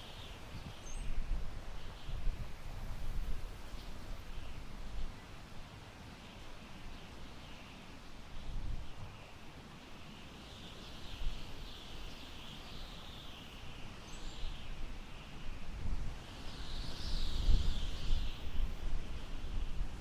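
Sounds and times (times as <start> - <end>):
wind rustling tall grass: 0.0 - 20.0.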